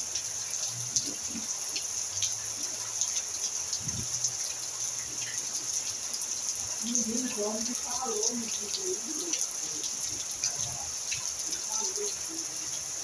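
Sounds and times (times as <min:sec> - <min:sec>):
rain hissing on roof and paving: 0:00.0 - 0:13.0
raindrops ticking: 0:00.0 - 0:13.0.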